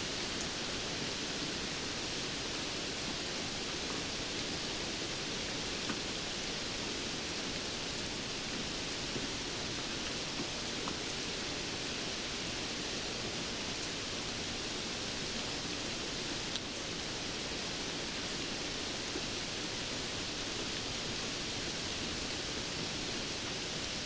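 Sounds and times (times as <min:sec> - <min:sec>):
steady rainfall hiss: 0:00.0 - 0:24.0.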